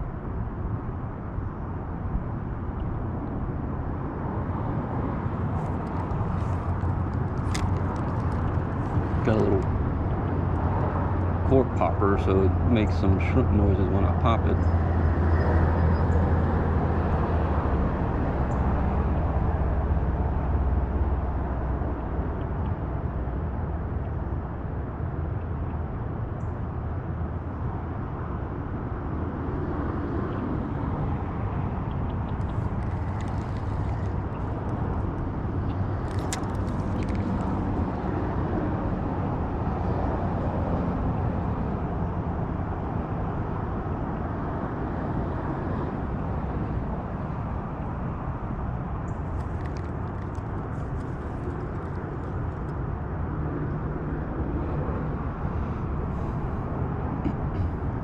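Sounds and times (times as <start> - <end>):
highway traffic drone: 0.0 - 58.0.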